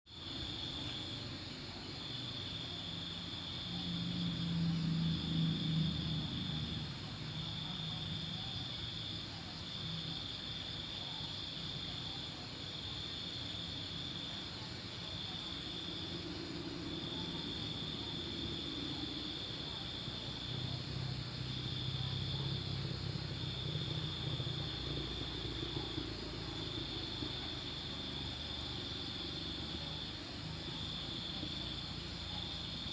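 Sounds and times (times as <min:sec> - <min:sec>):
crickets trilling: 0:00.1 - 0:32.9
low engine-like hum: 0:00.2 - 0:14.2, 0:14.8 - 0:32.9.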